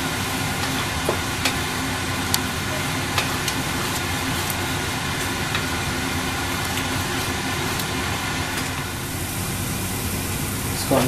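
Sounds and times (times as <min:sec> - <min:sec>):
masala frying with hiss: 0:00.0 - 0:11.0.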